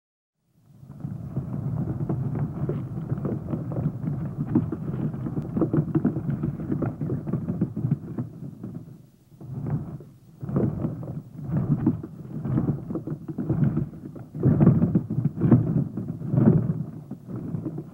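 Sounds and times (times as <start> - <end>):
cartoon ball rolling rumble: 0.7 - 17.9.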